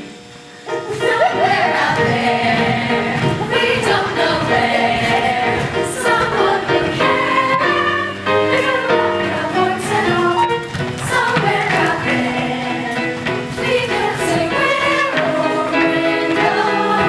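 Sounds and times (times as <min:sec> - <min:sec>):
chorus singing in harmony: 0:00.7 - 0:17.0.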